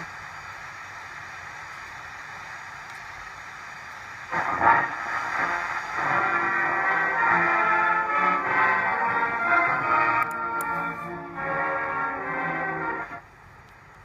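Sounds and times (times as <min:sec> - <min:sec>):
music from radio: 0:00.0 - 0:13.3
radio static hiss: 0:00.0 - 0:14.0.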